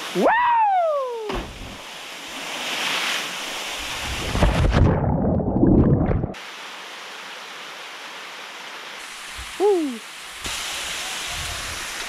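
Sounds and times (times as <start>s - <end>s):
rushing water: 0.0s - 12.0s
falling water: 1.0s - 12.0s.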